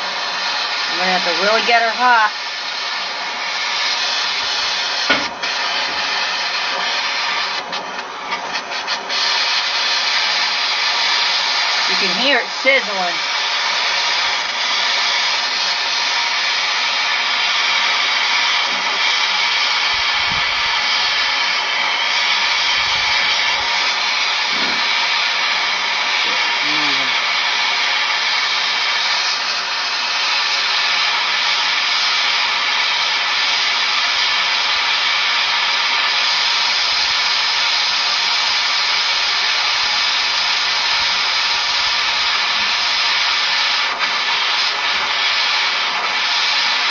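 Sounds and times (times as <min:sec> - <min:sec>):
gas torch flame hissing: 0:00.0 - 0:46.9.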